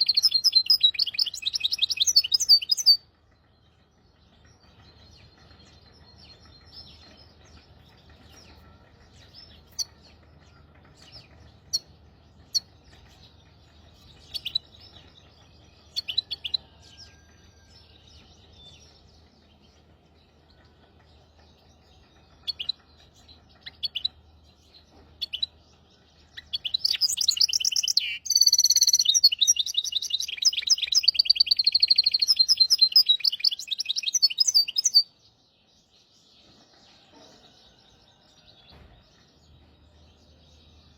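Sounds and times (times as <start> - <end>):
finch singing: 0.0 - 37.8.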